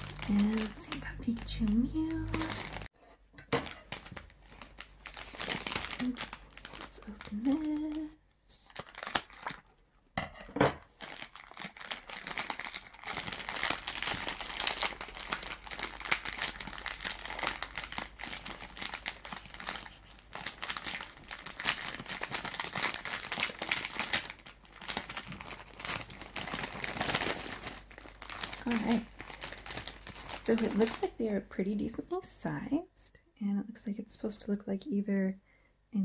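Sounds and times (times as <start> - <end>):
plastic snack bag crinkling: 0.0 - 2.9, 3.5 - 10.0, 10.8 - 31.2.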